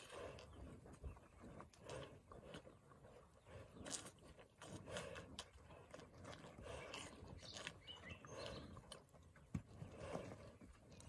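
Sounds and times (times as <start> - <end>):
cattle slurping water: 0.0 - 11.0.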